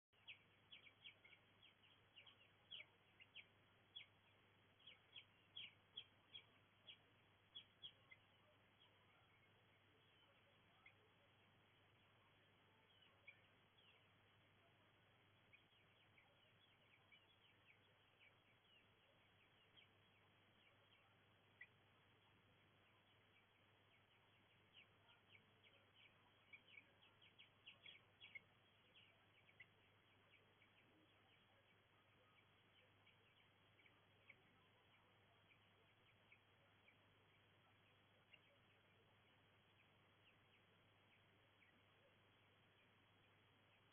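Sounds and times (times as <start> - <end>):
birds chirping: 0.0 - 43.9
faint steady hiss: 0.0 - 43.9.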